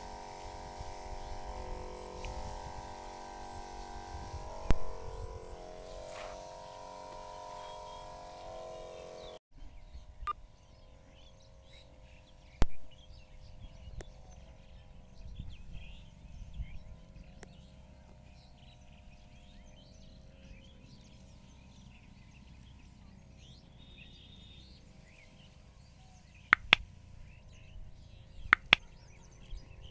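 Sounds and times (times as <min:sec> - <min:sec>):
sprayer pump buzzing: 0:00.0 - 0:09.4, 0:10.2 - 0:29.9
birds chirping: 0:00.0 - 0:29.9
faint steady hum: 0:00.0 - 0:29.9.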